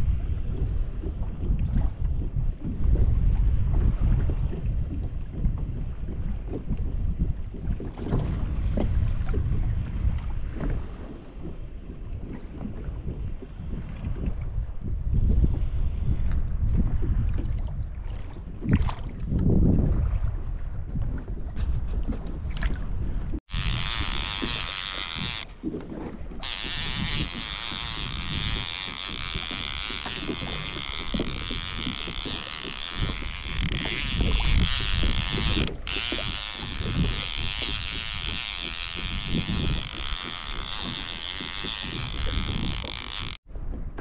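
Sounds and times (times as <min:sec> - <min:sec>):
water splashing from kayak: 0:00.0 - 0:44.0
wind buffeting microphone: 0:00.0 - 0:44.0.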